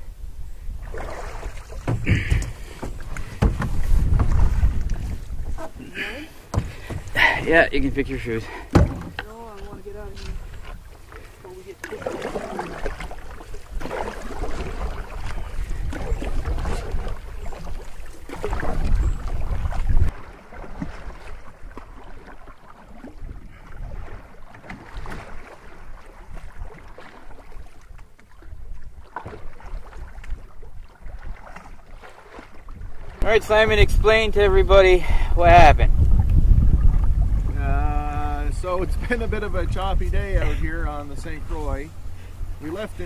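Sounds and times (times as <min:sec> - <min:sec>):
wind rumbling on microphone: 0:00.0 - 0:11.6, 0:12.7 - 0:22.2, 0:22.9 - 0:43.0
paddle strokes in water: 0:00.6 - 0:35.3, 0:35.9 - 0:37.7
waves slapping against hull: 0:00.7 - 0:43.0.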